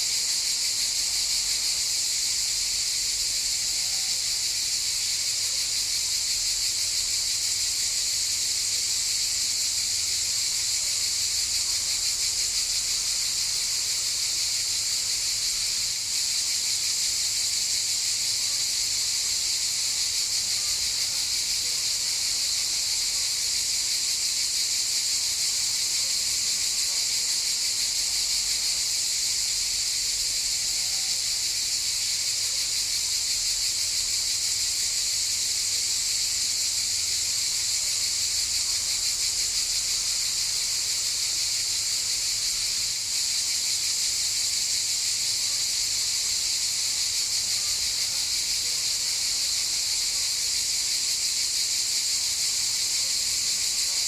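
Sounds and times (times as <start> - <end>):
cicadas buzzing in chorus: 0.0 - 54.0.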